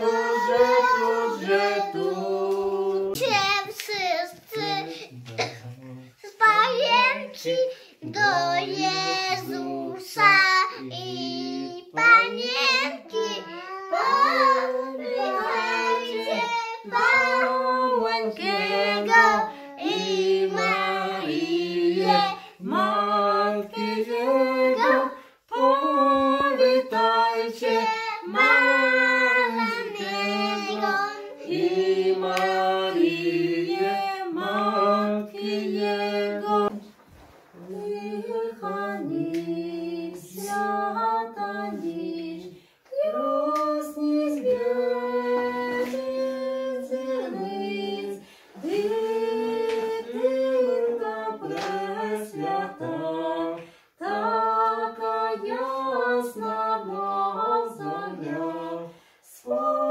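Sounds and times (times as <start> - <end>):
woman and man singing: 0.0 - 5.4, 6.0 - 36.9, 37.6 - 59.9.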